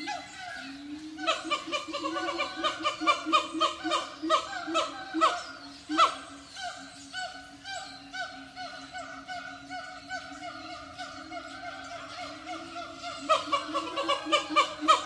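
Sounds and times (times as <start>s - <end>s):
gibbons whooping calls: 0.0s - 15.0s.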